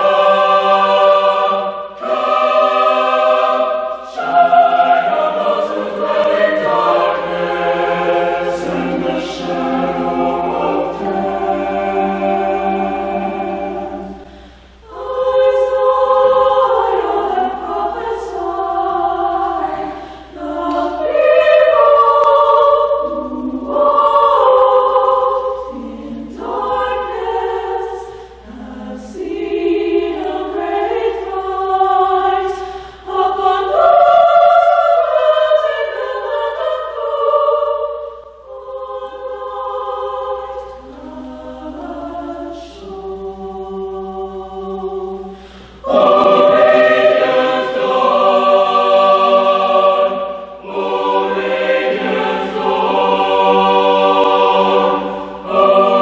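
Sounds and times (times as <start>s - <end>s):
choir singing unaccompanied: 0.0s - 56.0s.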